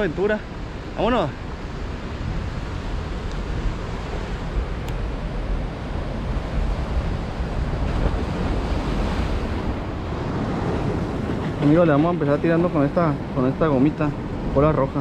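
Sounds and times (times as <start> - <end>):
ocean waves washing: 0.0 - 15.0
wind rumbling on microphone: 0.0 - 15.0.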